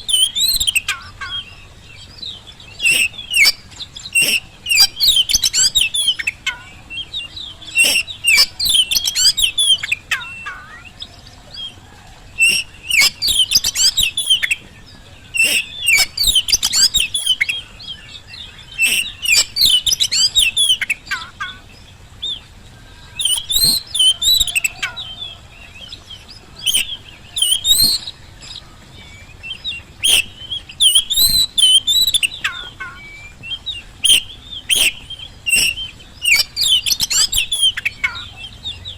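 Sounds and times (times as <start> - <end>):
songbird whistling and clicking: 0.0 - 11.8, 12.4 - 21.6, 23.0 - 38.9.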